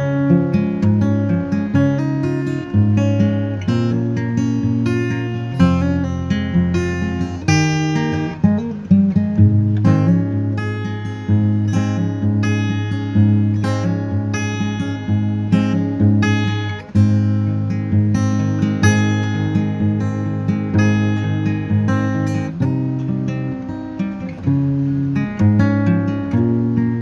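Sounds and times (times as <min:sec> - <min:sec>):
acoustic guitar plucked and strummed: 0:00.0 - 0:27.0.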